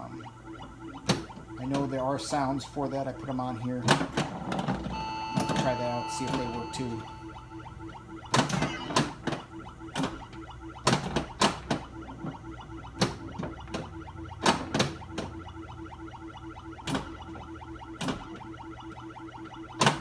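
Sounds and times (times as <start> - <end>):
pulsing electronic game sound: 0.0 - 3.8, 4.8 - 20.0
pinball machine mechanical clacks: 0.0 - 20.0.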